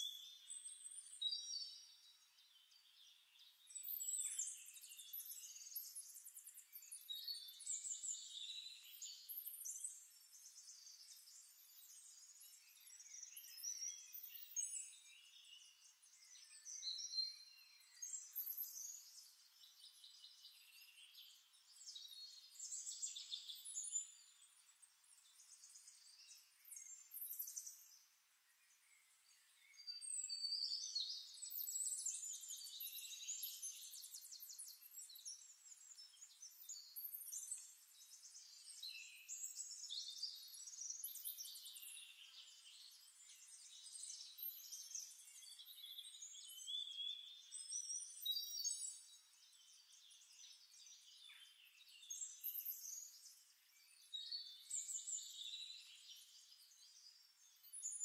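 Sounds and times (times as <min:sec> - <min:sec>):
faint birdsong chirps and trills: 0:00.0 - 0:58.0.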